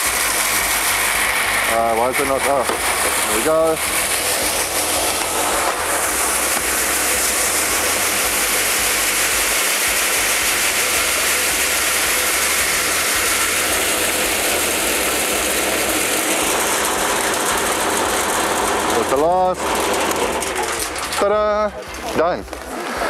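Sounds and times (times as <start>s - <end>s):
seeds rattling in spinning disc: 0.0s - 22.4s
constant low motor hum: 0.0s - 23.0s.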